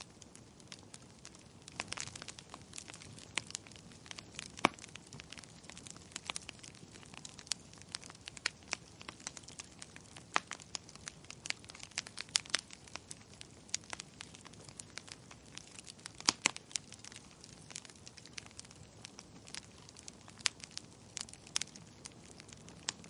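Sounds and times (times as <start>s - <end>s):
faint steady hiss: 0.0s - 23.0s
wood fire crackling and popping: 0.0s - 23.0s.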